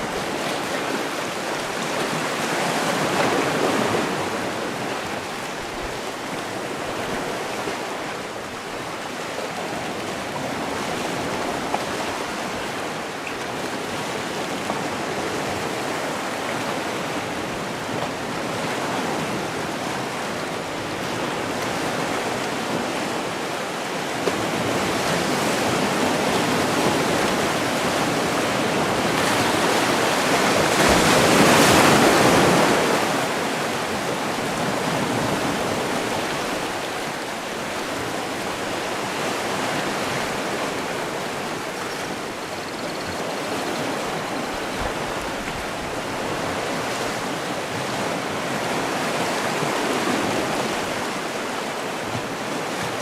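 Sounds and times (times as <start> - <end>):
waves washing in: 0.0 - 53.0.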